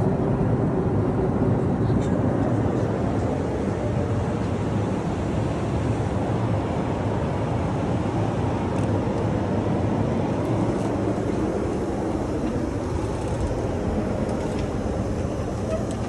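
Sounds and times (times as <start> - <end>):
airliner cabin noise: 0.0 - 16.0.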